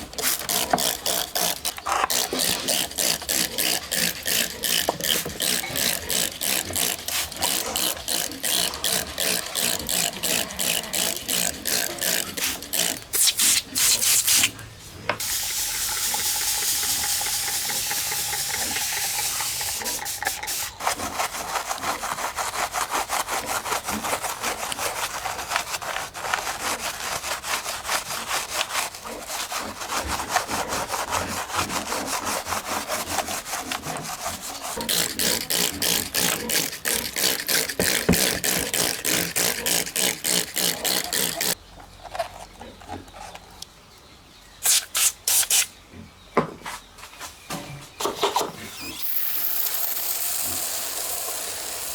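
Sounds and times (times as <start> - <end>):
brush scrubbing: 0.0 - 41.6.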